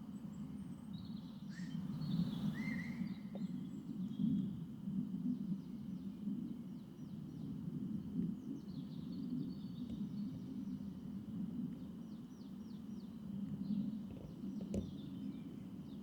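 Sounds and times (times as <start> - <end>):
songbirds singing: 0.1 - 4.6, 5.5 - 16.0.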